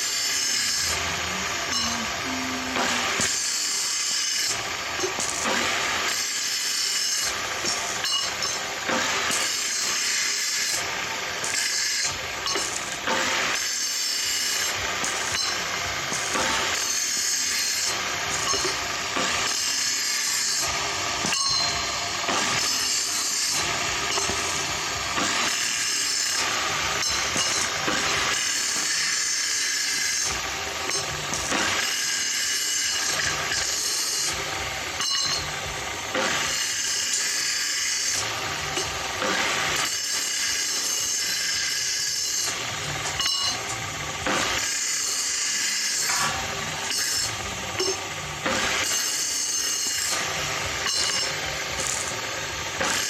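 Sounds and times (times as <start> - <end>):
hissing metalworking noise: 0.0 - 53.0.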